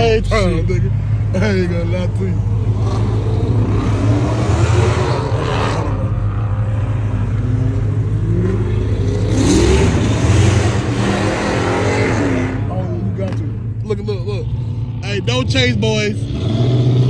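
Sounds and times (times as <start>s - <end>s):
car engines accelerating: 0.0s - 17.0s.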